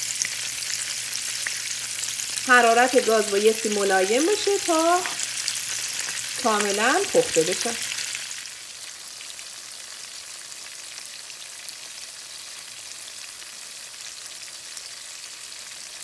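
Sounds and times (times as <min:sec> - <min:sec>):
shrimp sizzling in oil: 0:00.0 - 0:16.0.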